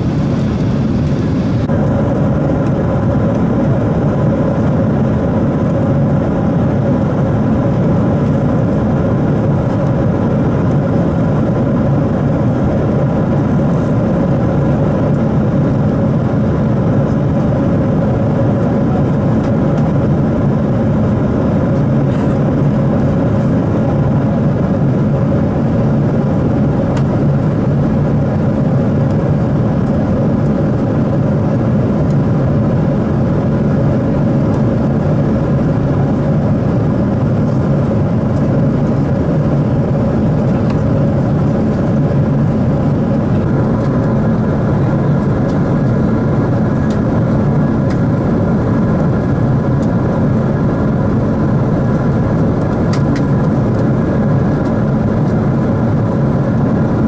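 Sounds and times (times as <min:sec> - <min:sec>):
airflow rush and engine drone: 0:00.0 - 0:57.0.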